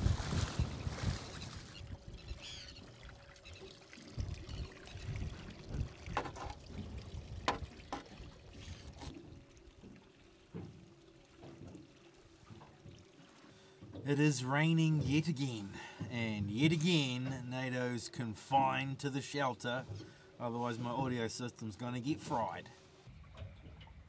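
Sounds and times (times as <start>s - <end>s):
water sloshing against boat: 0.0s - 24.0s.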